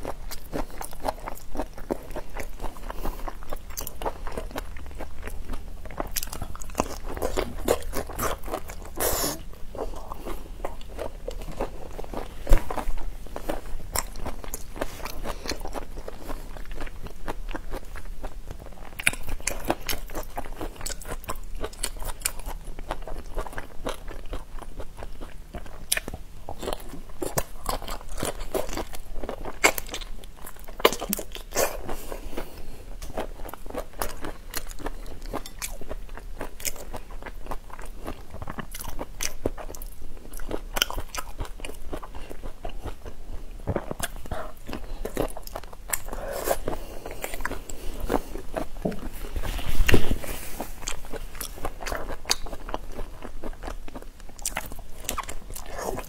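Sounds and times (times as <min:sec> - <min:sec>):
chewing shell-on shrimp crunching: 0:00.0 - 0:56.0.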